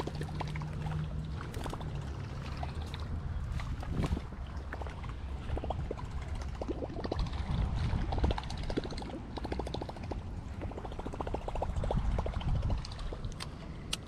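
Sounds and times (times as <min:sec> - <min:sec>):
waves lapping against bank: 0:00.0 - 0:14.0
wind rumbling on microphone: 0:00.0 - 0:14.0.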